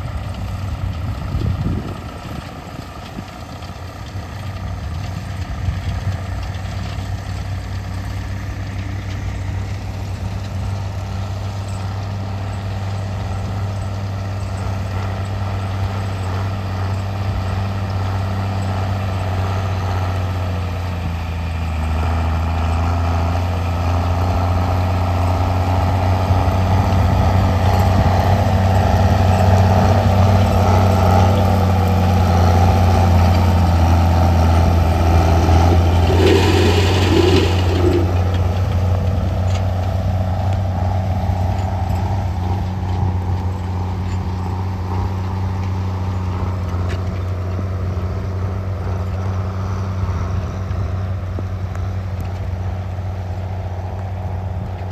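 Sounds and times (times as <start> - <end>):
heavy engine humming: 0.0 - 54.9.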